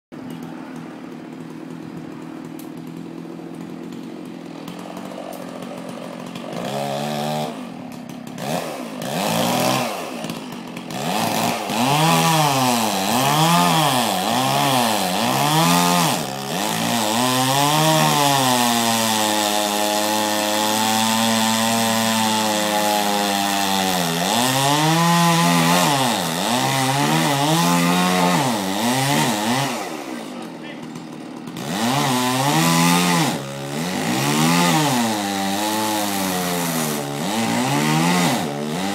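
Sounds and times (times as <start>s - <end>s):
chainsaw revving and cutting: 0.2s - 38.9s.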